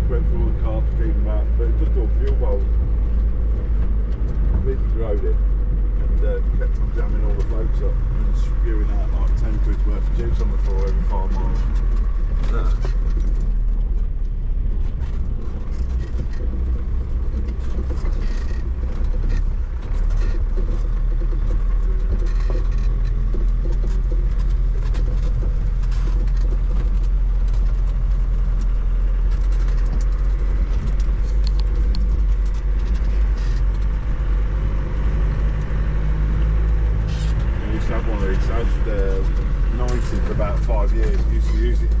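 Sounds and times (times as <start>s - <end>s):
body rattles and knocks: 0.0s - 42.0s
engine rumbling from inside cabin: 0.0s - 42.0s.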